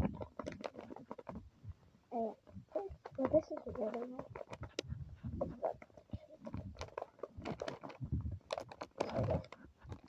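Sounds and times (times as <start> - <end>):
toys and plastic packaging handled: 0.0 - 10.0.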